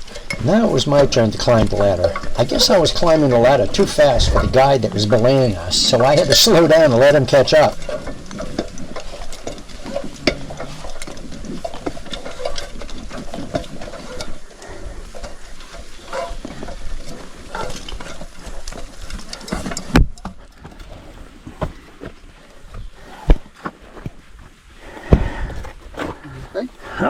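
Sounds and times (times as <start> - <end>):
climbing gear clicks and knocks: 0.0 - 24.4.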